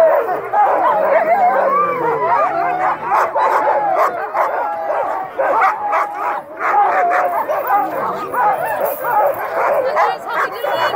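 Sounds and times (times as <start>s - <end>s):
sled dogs barking and howling: 0.0s - 10.9s.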